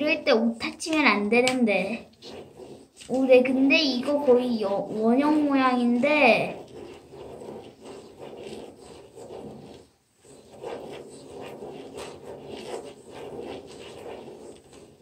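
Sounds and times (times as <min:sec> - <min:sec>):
ballpoint pen scratching on paper: 0:00.0 - 0:15.0.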